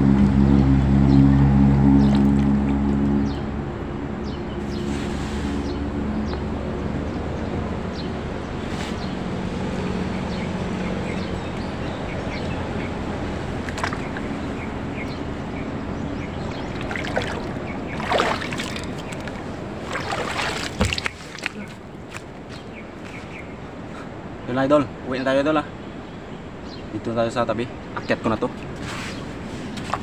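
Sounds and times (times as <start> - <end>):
small birds chirping: 4.2 - 30.0.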